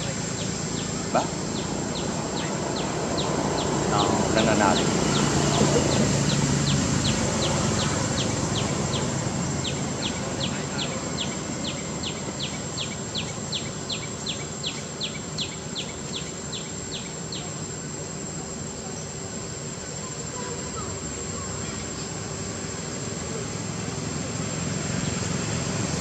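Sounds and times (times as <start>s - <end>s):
steady high-pitched whine: 0.0s - 26.0s.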